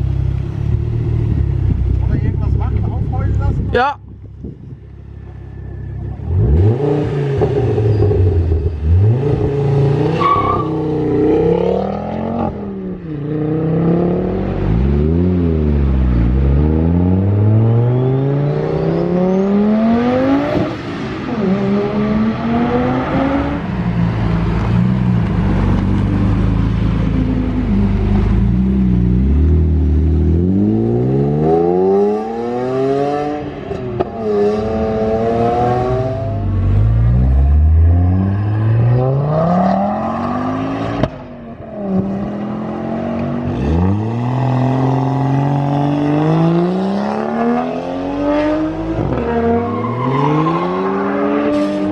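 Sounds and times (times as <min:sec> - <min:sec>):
sports car engines accelerating: 0:00.0 - 0:51.9.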